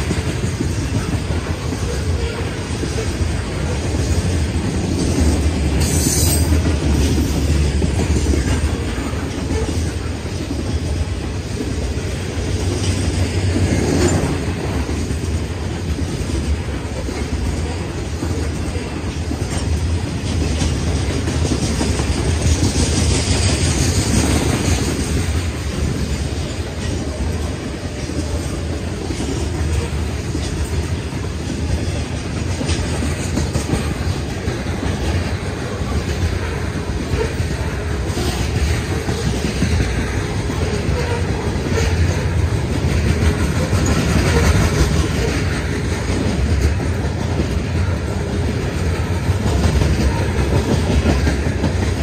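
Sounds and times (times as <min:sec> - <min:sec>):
train wheels rumbling on rail: 0:00.0 - 0:52.0
wheels clacking over rail joints: 0:00.0 - 0:52.0.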